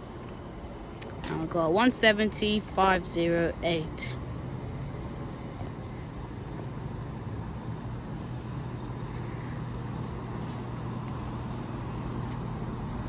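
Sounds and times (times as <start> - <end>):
diesel train engine humming: 0.0 - 13.0.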